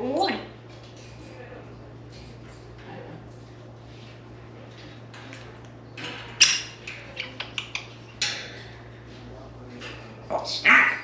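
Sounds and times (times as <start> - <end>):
parrot scrabbling and rustling: 0.7 - 10.3.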